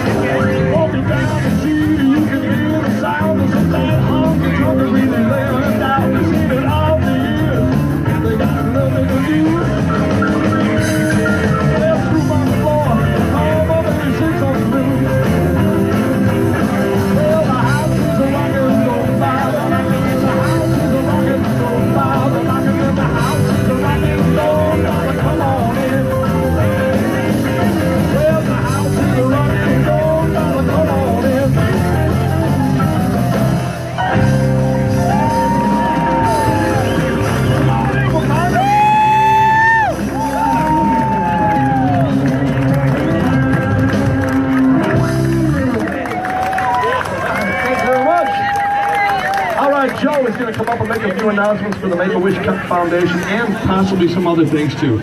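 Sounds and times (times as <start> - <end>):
rock music with singer and guitar: 0.0 - 55.0.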